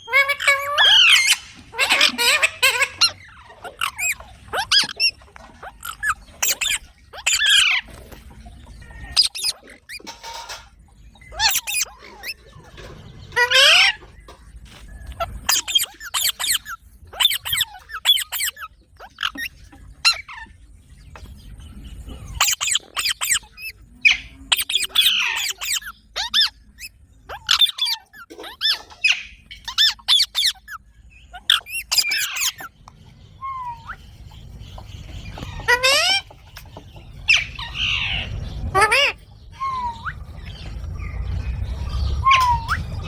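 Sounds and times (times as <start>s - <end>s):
parrot chirps and squawks: 0.0s - 14.3s, 15.0s - 20.6s, 22.1s - 43.0s.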